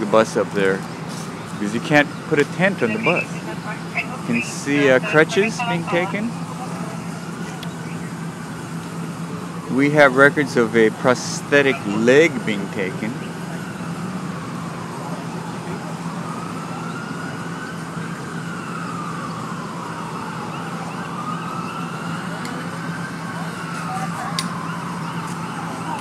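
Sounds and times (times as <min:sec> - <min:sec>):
siren wailing: 0:01.5 - 0:26.0.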